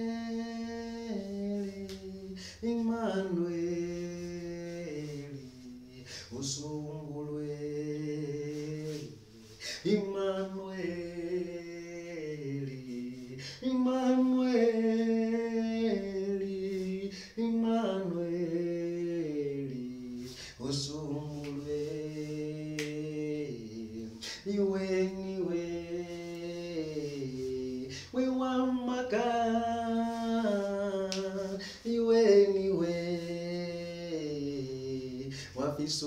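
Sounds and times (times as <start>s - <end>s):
man singing unaccompanied: 0.0s - 36.0s.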